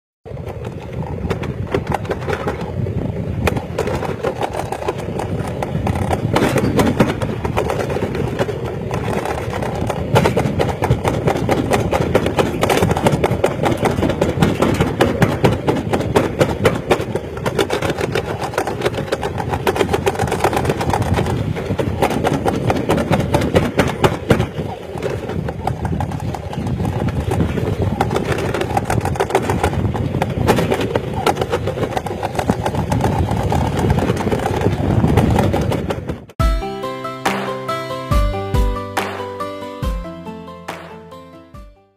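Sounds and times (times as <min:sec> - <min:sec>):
sled rattling down metal slide: 0:00.3 - 0:36.4.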